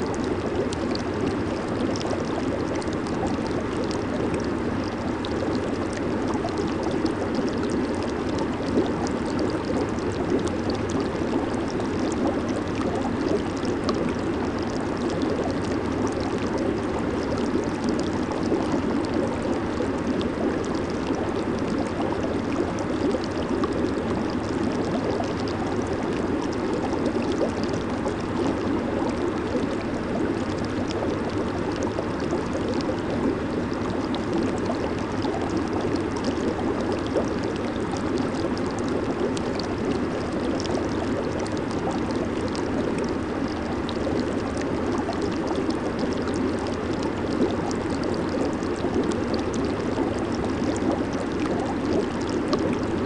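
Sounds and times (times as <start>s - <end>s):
faint low pump hum: 0.0s - 53.0s
hot tub water bubbling: 0.0s - 53.0s.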